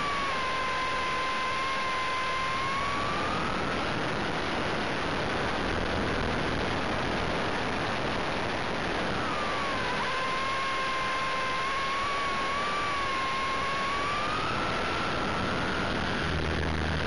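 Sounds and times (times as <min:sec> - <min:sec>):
motor whine: 0:00.0 - 0:17.0
rotor wash and wind noise: 0:00.0 - 0:17.0.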